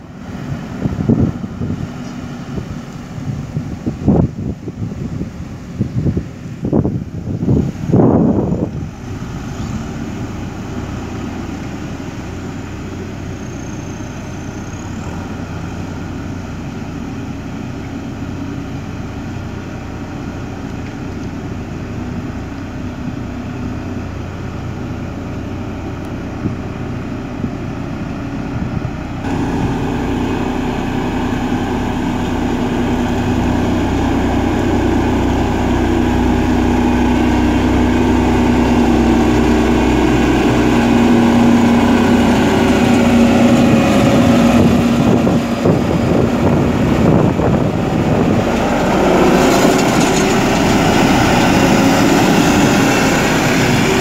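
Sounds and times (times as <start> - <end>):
road roller diesel engine: 0.0 - 54.0.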